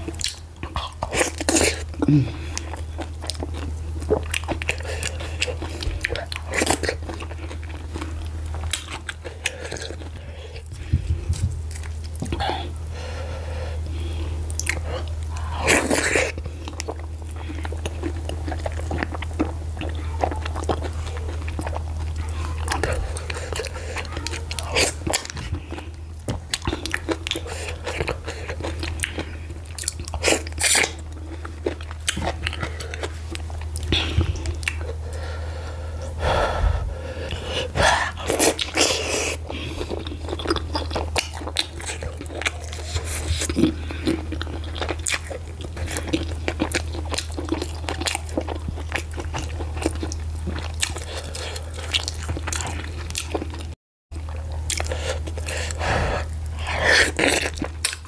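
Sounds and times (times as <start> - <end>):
steady low hum: 0.0 - 58.0
wet chewing and mouth sounds: 0.0 - 58.0.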